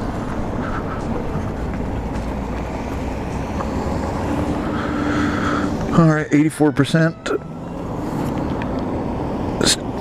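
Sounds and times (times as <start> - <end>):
road rumble: 0.0 - 10.0.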